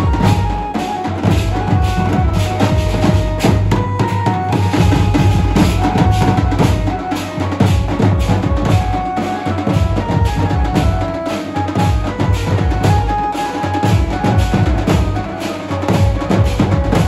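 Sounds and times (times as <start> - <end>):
bass drums playing fast rhythm: 0.0 - 17.0.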